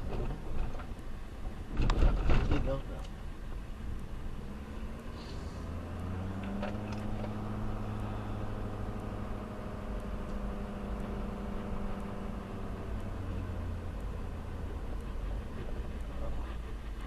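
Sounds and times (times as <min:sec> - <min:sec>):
faint ticks: 0:00.0 - 0:17.0
vehicle engine running: 0:00.0 - 0:17.0.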